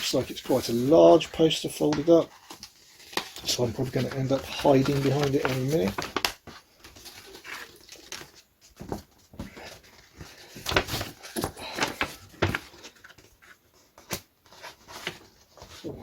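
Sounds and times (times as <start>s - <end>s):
paper poster rustling and crackling: 0.0s - 16.0s.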